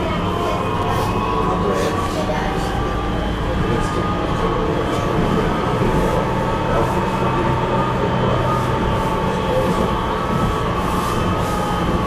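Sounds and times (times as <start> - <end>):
tram rumbling: 0.0 - 12.0.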